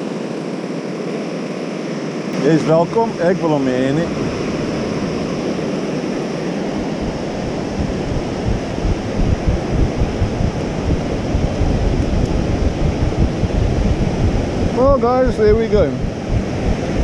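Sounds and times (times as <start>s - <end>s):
surf washing: 2.4s - 17.0s
wind buffeting microphone: 2.7s - 17.0s.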